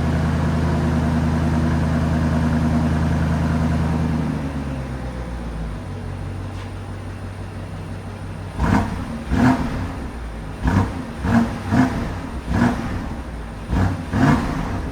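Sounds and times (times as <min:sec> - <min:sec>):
car engine idling and revving: 0:00.0 - 0:14.9.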